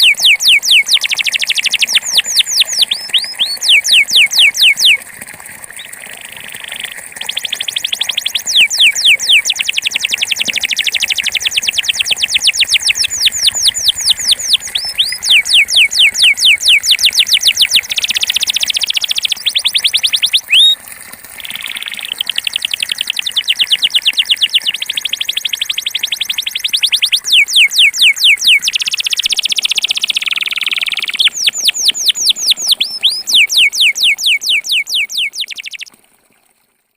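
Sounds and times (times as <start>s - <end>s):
canary singing trills: 0.0s - 5.0s, 7.2s - 20.8s, 21.4s - 35.9s.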